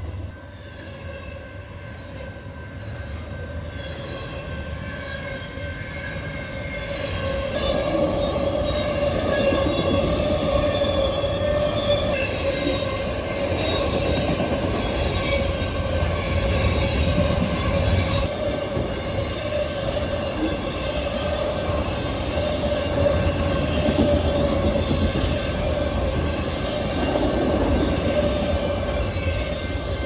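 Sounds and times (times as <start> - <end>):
freight train rumbling on rails: 0.0 - 30.0
high wheel squeal: 2.8 - 30.0.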